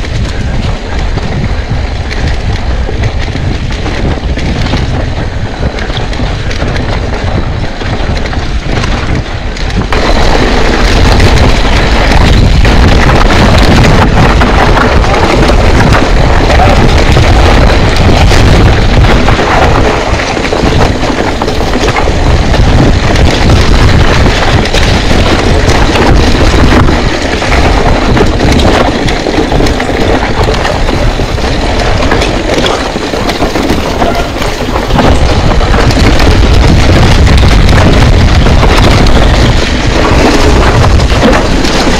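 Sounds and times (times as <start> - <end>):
bike rattling over rough trail: 0.0 - 41.9
wind buffeting microphone: 0.0 - 41.9.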